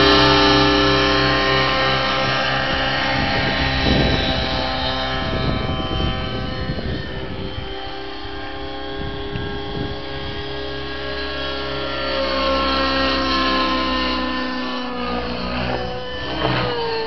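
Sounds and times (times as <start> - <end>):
model helicopter high whine: 0.0 - 17.0.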